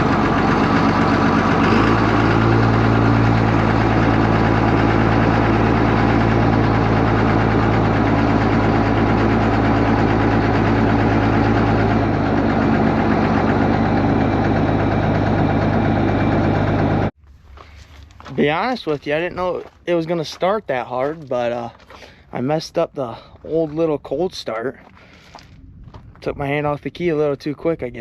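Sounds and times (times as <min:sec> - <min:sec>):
tractor diesel engine running: 0:00.0 - 0:26.4.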